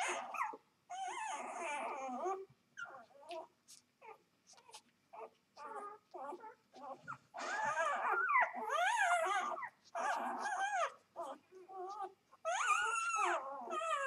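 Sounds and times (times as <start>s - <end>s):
puppies whimpering and squeaking: 0.0s - 14.0s.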